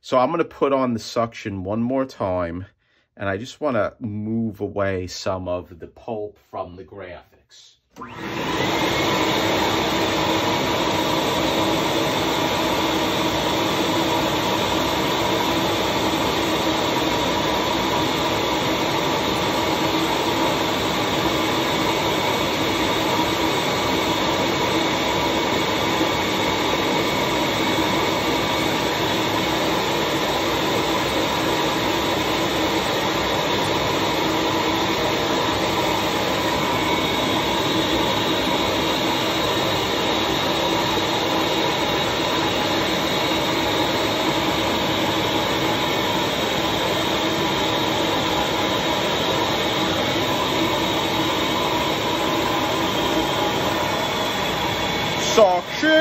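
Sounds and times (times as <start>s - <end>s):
vacuum motor rushing and whining: 7.9s - 56.0s.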